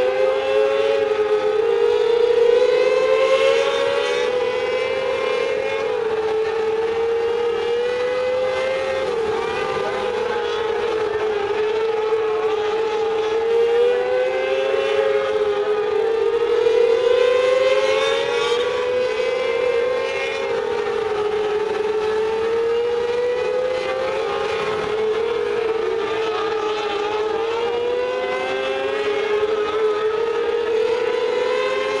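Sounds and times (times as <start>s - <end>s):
race car engines at high revs: 0.0s - 32.0s.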